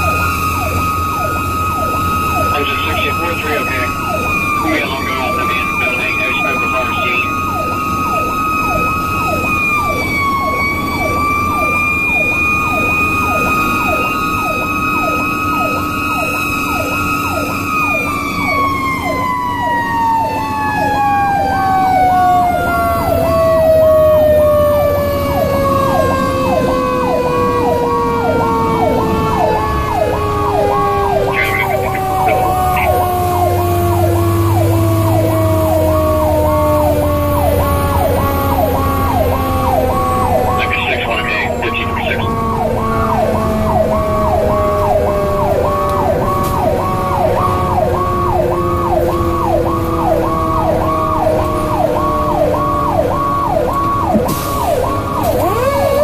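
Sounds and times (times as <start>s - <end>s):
electronic siren falling sweep: 0.0s - 56.0s
mechanical siren wailing: 0.0s - 56.0s
road noise: 0.0s - 56.0s
truck engine: 0.0s - 56.0s.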